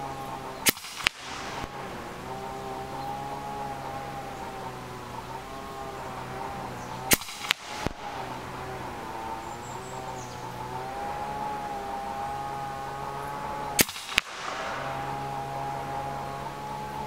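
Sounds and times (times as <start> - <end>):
air rifle shot crack: 0.4 - 17.0.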